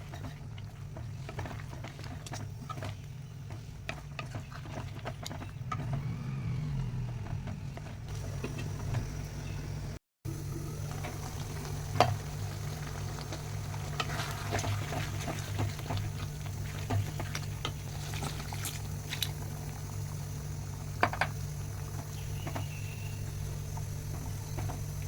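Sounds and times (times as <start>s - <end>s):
food bubbling in a pan: 0.0s - 25.0s
steady low hum: 0.0s - 25.0s.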